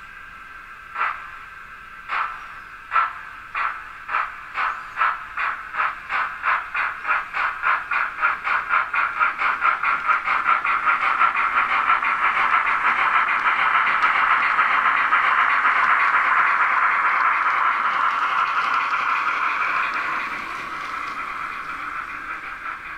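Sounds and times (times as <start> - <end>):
model steam locomotive chuffs: 0.0 - 22.9.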